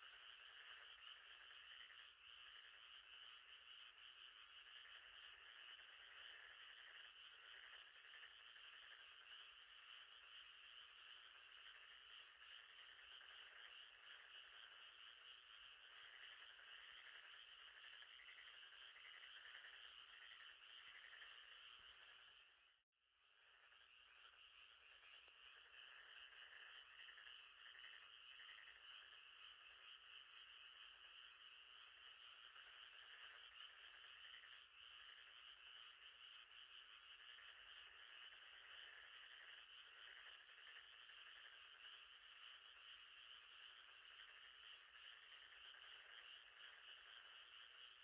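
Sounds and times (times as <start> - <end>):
frogs trilling: 0.0 - 48.0.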